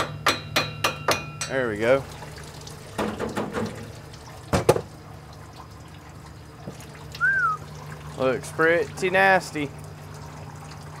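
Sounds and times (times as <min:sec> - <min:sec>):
fluid dripping: 0:01.5 - 0:11.0.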